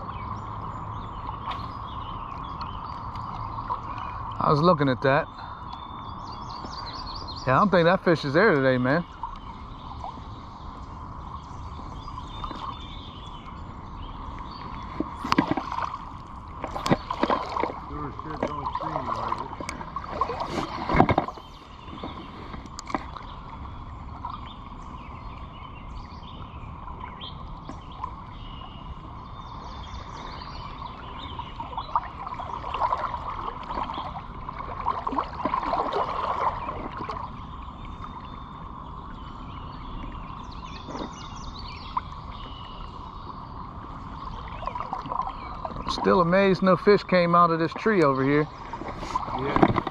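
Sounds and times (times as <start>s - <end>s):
creek water over rocks: 0.0s - 49.9s.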